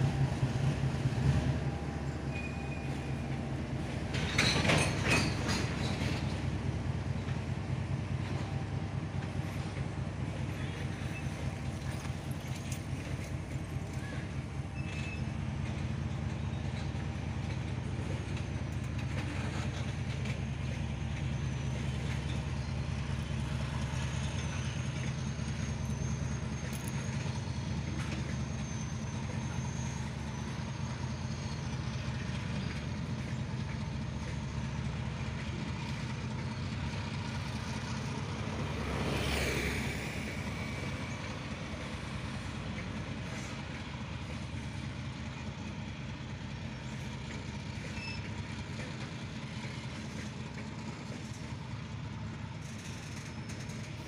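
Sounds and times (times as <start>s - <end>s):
freight wagons rumbling on rails: 0.0s - 54.0s.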